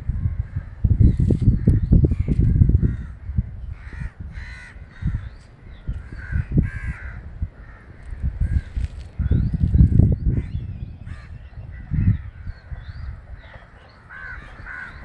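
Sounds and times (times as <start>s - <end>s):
crows cawing: 1.5s - 8.9s, 10.3s - 15.0s.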